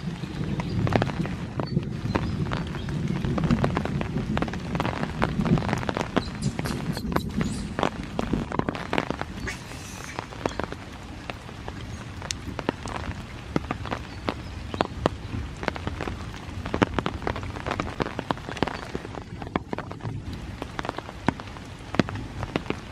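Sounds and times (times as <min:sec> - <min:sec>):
rain falling: 0:00.0 - 0:22.9
raindrops ticking on surfaces: 0:00.0 - 0:22.9.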